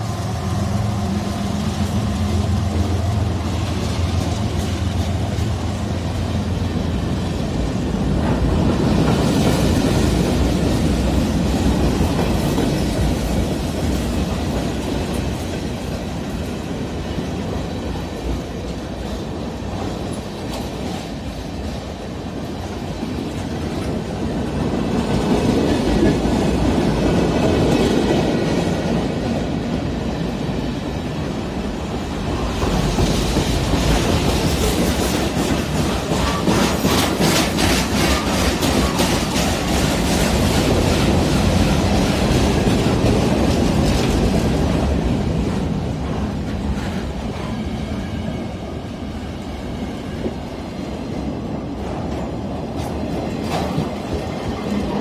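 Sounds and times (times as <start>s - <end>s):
diesel locomotive hum: 0.0s - 55.0s
freight train cars rolling: 0.0s - 55.0s
wheels clicking on rails: 7.5s - 48.3s, 50.1s - 55.0s.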